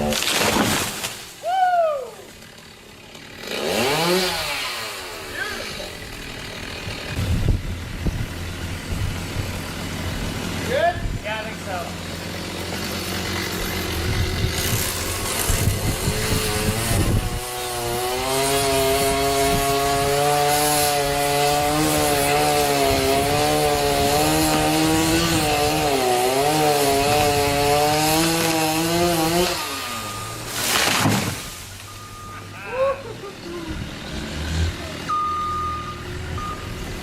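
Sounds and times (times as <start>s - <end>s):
chainsaw cutting wood: 0.0s - 1.4s, 2.2s - 32.3s, 33.1s - 35.1s.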